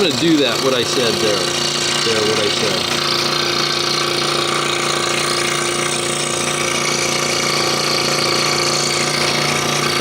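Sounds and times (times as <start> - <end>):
scroll saw cutting wood: 0.0 - 10.0.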